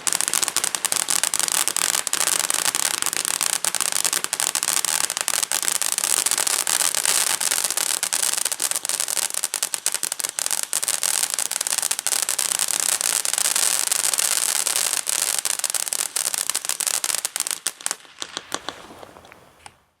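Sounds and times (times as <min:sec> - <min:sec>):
firework fountain hissing and crackling: 0:00.0 - 0:20.0.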